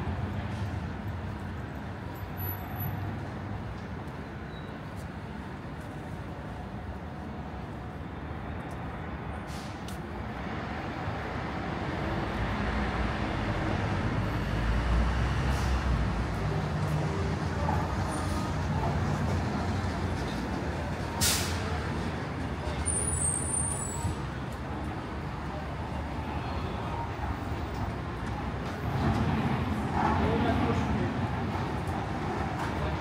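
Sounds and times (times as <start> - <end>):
heavy vehicle engine rumbling: 0.0 - 33.0
street traffic: 0.0 - 33.0.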